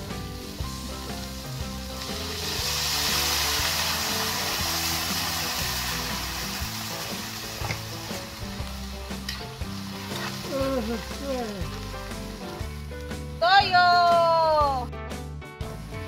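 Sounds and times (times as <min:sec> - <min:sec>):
water sizzling in hot wok: 0:00.0 - 0:14.9.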